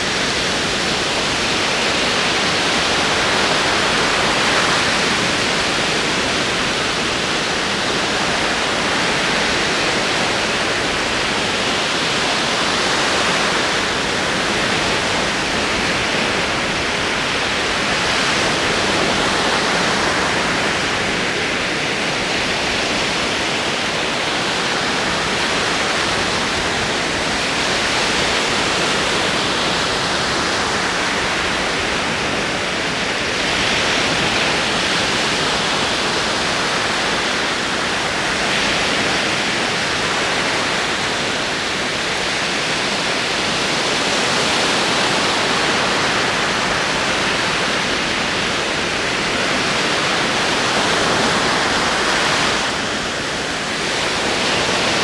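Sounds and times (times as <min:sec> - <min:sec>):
ocean waves rolling in: 0:00.0 - 0:55.0.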